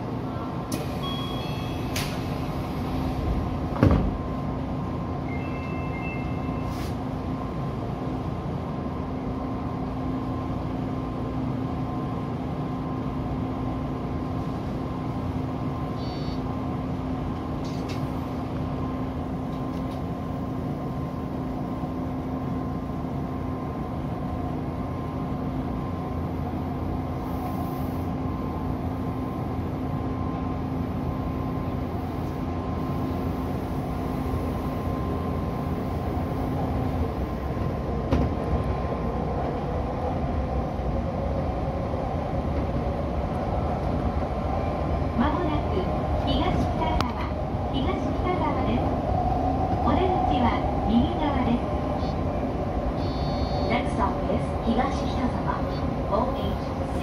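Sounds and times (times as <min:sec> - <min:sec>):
electric train humming: 0:00.0 - 0:57.0.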